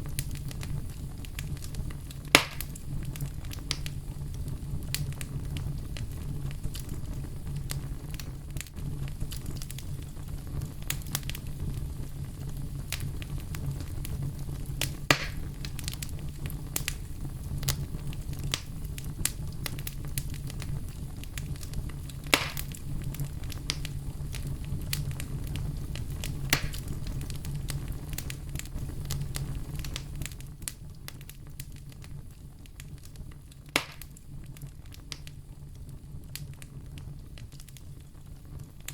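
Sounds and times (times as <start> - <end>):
fire rumbling: 0.0 - 38.9
firewood crackling: 0.0 - 38.9
firewood popping: 0.1 - 35.4.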